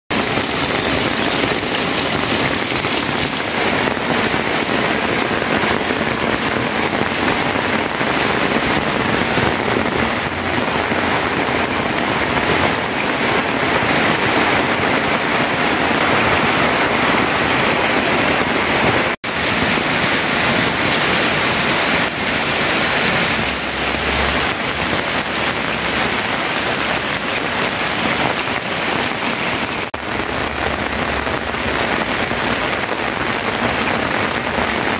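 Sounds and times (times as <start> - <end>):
heavy rain on metal roof: 0.1 - 34.9.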